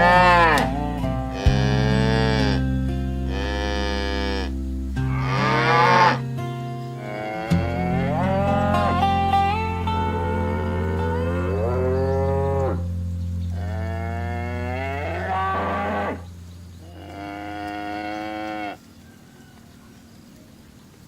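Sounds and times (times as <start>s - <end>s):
cows mooing: 0.0s - 13.0s, 13.6s - 18.9s.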